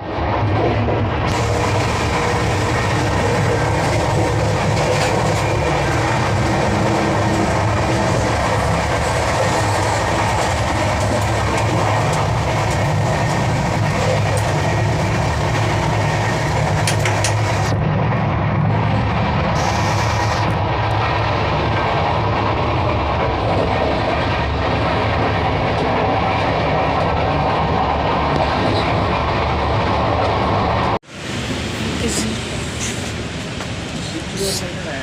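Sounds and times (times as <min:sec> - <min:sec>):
train wheels and coaches rumbling: 0:00.0 - 0:35.0.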